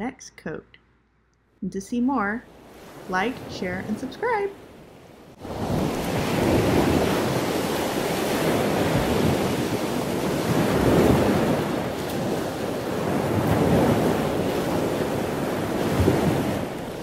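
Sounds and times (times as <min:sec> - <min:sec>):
ocean surf breaking: 0:02.5 - 0:17.0.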